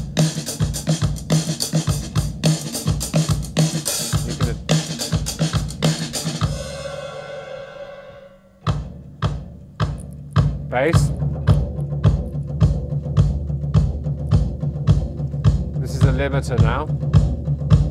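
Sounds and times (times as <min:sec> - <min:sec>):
drum kit beat: 0:00.0 - 0:17.9.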